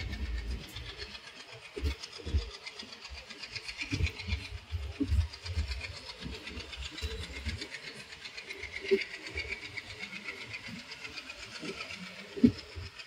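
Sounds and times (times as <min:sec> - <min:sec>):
train wheels clattering over rails: 0:00.0 - 0:13.0.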